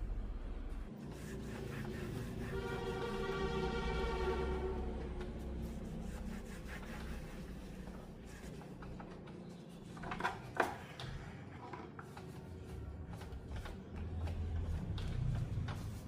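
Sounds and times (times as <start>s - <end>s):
hands rubbing and scraping parts: 0.9s - 3.4s, 4.9s - 16.0s.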